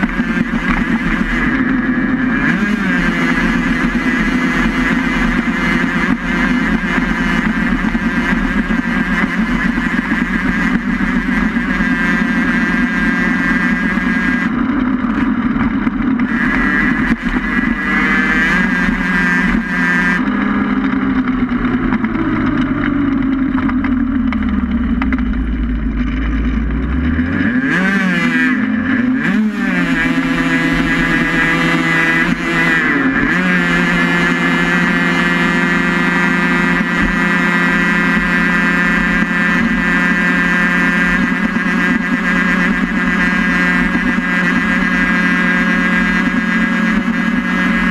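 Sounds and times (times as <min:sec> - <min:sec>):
pitched whine: 0:00.0 - 0:47.9
race vehicle at speed: 0:00.0 - 0:47.9.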